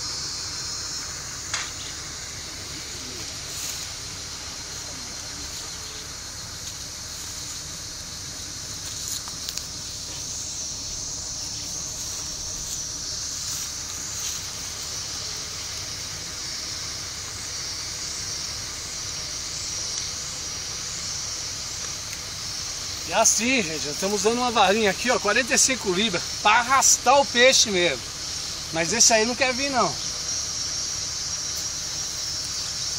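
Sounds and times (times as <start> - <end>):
high-pitched insect drone: 0.0 - 32.9.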